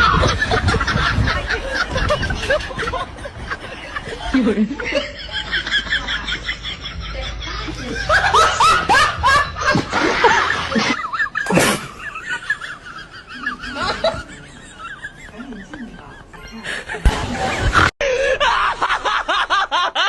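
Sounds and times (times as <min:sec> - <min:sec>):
people giggling: 0:00.0 - 0:20.0.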